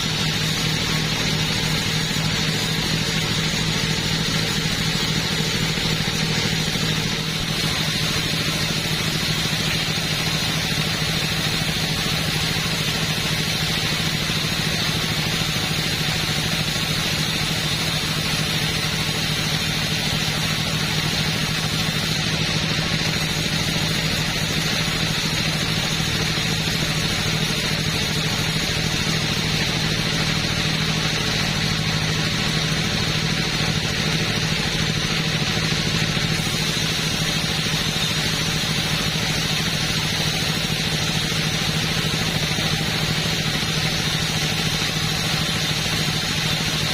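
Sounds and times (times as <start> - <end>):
chainsaw engine running: 0.0 - 46.9.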